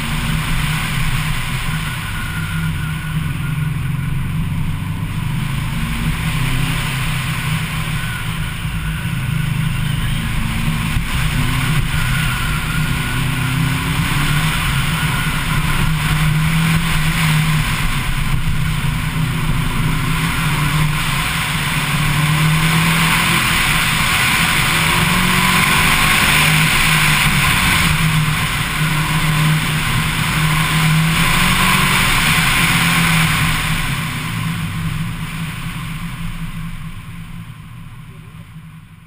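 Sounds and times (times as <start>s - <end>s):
car engine running hard: 0.0s - 39.0s.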